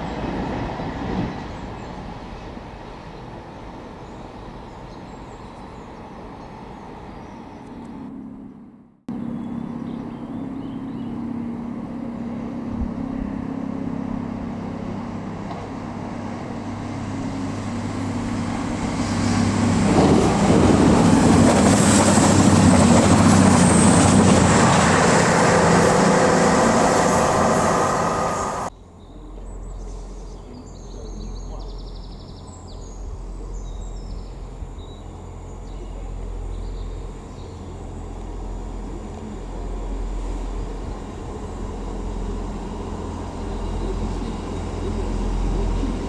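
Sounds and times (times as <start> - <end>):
train passing: 0.0 - 46.0.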